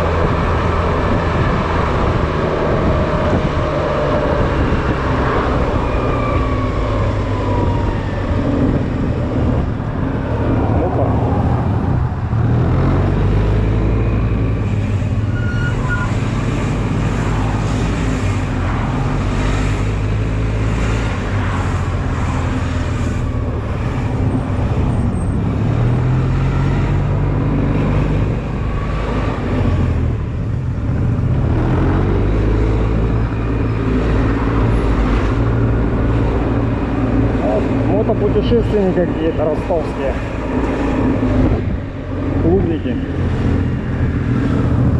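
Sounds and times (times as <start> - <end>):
road and wind rumble: 0.0 - 44.9.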